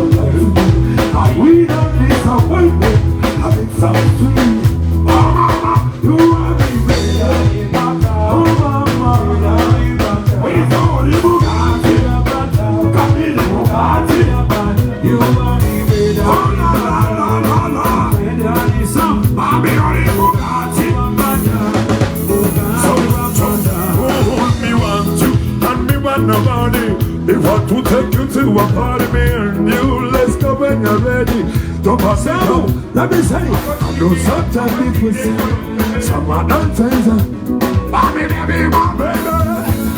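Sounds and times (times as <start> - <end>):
band music over loudspeakers: 0.0 - 39.9
drum kit beat: 0.0 - 39.9.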